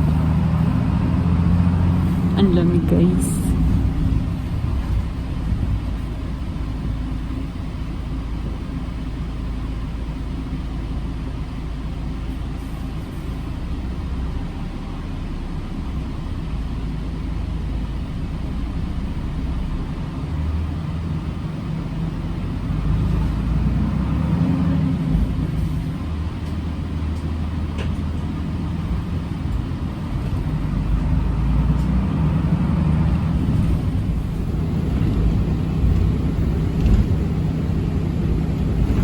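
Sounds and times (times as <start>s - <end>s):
bus engine rumble: 0.0s - 39.0s
road noise: 0.0s - 39.0s.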